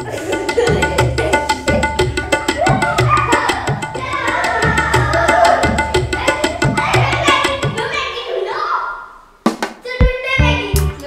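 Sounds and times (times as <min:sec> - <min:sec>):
music with fast drum beat: 0:00.0 - 0:07.9, 0:09.5 - 0:11.0.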